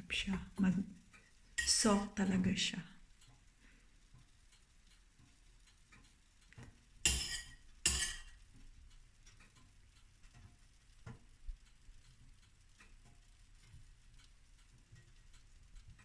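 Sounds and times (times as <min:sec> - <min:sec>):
faint ticking: 0:00.0 - 0:16.0.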